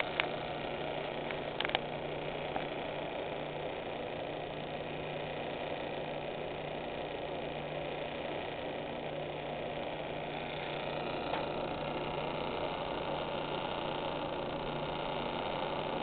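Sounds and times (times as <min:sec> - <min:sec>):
metal lathe motor humming: 0:00.0 - 0:16.0.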